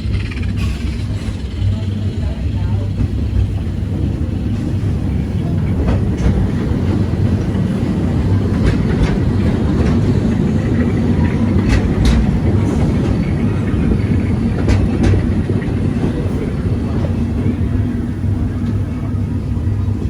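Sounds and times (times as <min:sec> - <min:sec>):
wheels clicking over rail joints: 0:00.0 - 0:19.2
steam train rumbling: 0:00.0 - 0:20.0.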